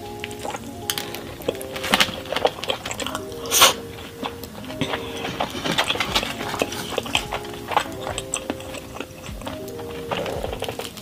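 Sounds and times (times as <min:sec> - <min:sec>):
person chewing: 0:00.0 - 0:11.0
soft background music: 0:00.0 - 0:11.0.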